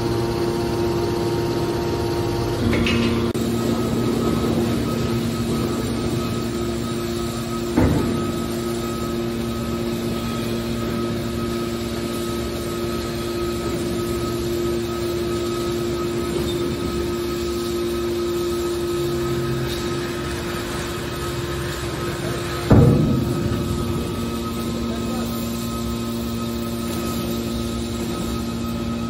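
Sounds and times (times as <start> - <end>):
hydraulic pump and motor hum: 0.0 - 29.0.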